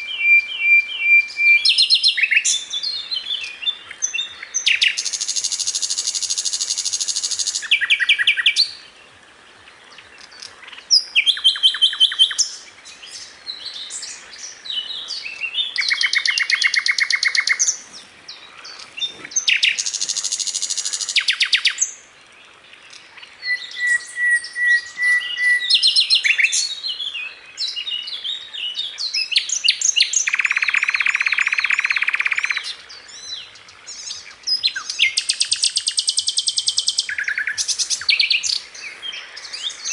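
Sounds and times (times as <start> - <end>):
bird chirps: 0.0 - 8.9, 9.9 - 22.0, 22.8 - 39.9
songbird trills: 0.0 - 39.9.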